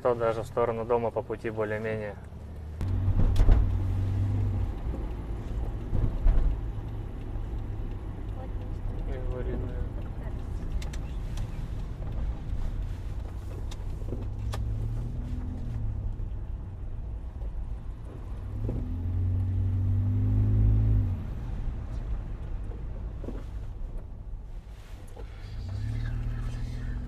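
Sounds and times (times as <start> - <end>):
car engine: 0.0 - 27.0
road rumble: 0.0 - 27.0.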